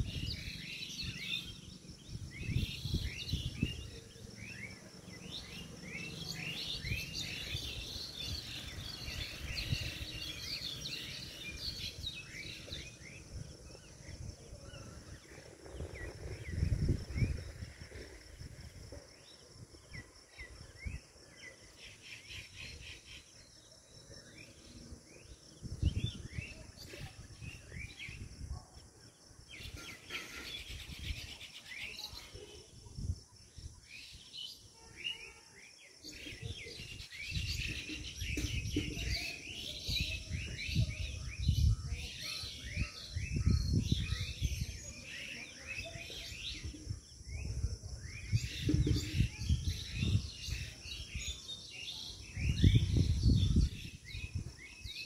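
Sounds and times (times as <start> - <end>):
wind rumbling on microphone: 0.0 - 21.5, 24.6 - 29.8, 32.1 - 34.2, 36.1 - 51.5, 52.1 - 55.0
birds chirping and calling: 0.0 - 55.0.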